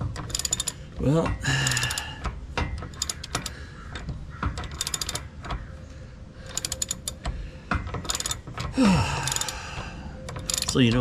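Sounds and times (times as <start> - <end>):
ratchet wrench clicking: 0.0 - 5.7, 6.4 - 11.0.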